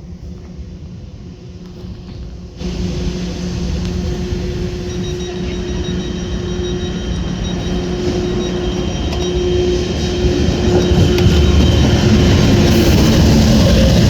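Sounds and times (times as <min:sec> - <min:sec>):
electric train hum: 0:00.0 - 0:14.0.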